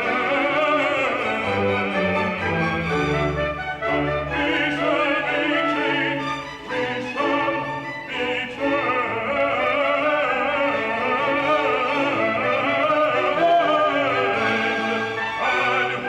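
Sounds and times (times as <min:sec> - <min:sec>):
orchestral accompaniment: 0:00.0 - 0:16.0.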